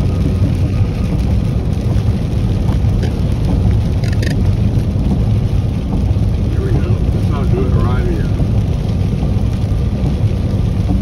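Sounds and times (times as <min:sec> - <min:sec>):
tyres on wet road: 0:00.0 - 0:11.0
vehicle engine rumble: 0:00.0 - 0:11.0.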